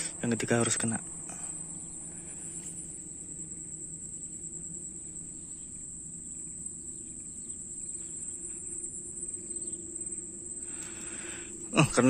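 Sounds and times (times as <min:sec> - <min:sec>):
faint insect chirps: 0:00.0 - 0:12.0
high-pitched insect drone: 0:00.0 - 0:12.0.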